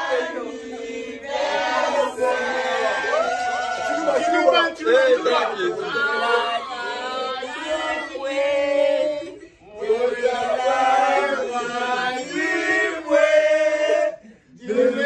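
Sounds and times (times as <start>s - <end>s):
group singing a birthday song: 0.0s - 15.0s.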